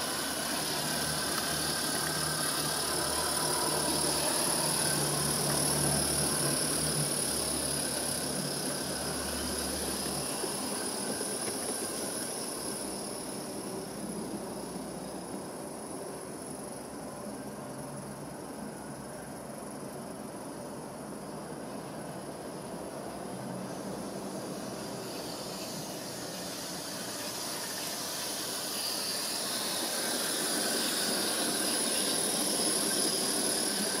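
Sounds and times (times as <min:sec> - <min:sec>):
steady high hiss: 0:00.0 - 0:34.0
steam locomotives running rumble: 0:00.0 - 0:34.0.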